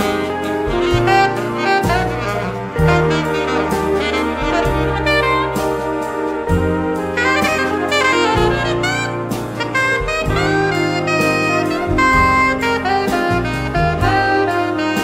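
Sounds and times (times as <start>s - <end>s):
big band jazz: 0.0s - 15.0s
saxophone with sliding notes: 0.0s - 15.0s.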